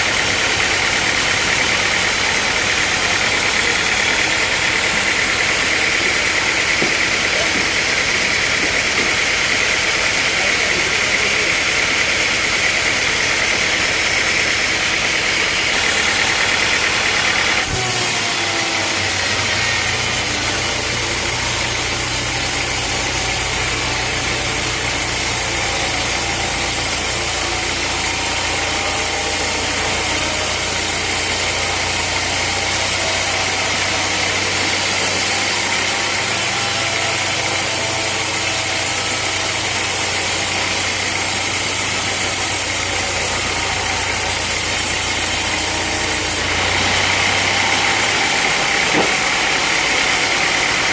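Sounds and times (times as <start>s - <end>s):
high machine whine: 0.0s - 50.9s
sawmill engine droning: 0.0s - 50.9s.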